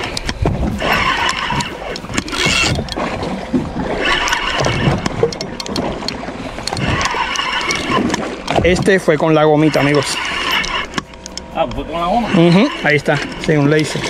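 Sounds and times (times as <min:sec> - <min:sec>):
fishing reel gears whirring: 0:00.0 - 0:14.0
reel clicks: 0:00.0 - 0:14.0.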